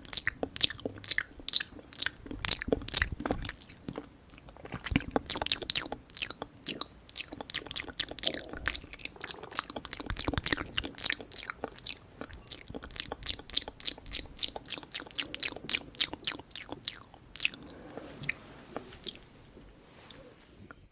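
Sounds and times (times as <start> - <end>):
mouth chewing smacks: 0.0 - 19.3.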